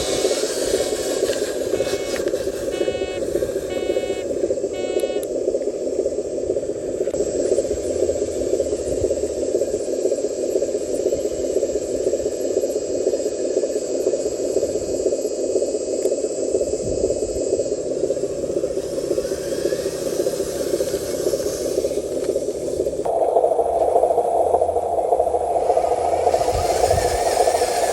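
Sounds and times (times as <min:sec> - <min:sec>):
model truck motor drone: 0:00.0 - 0:12.3, 0:14.7 - 0:27.9
faint high whine: 0:00.0 - 0:27.9.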